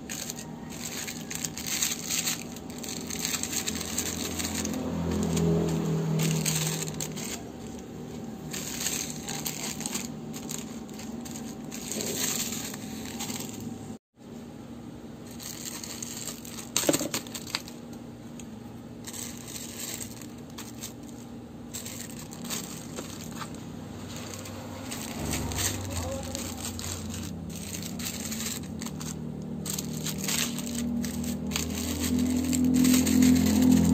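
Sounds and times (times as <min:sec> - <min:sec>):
plastic sachets crinkling: 0:00.0 - 0:13.9, 0:15.3 - 0:17.8, 0:19.0 - 0:33.9.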